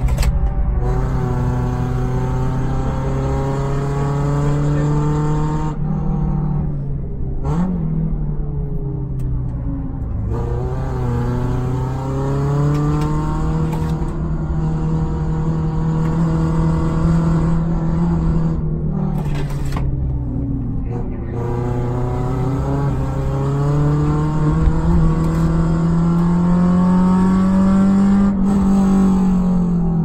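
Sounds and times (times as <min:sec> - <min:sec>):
car engine revving under load: 0:00.0 - 0:30.0.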